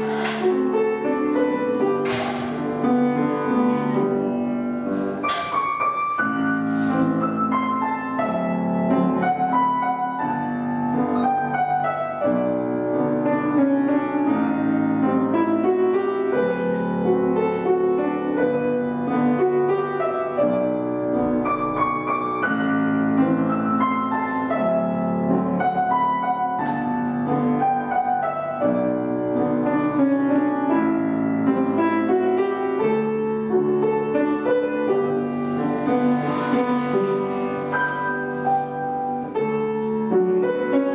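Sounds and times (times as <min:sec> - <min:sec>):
classical piano accompaniment: 0:00.0 - 0:40.9.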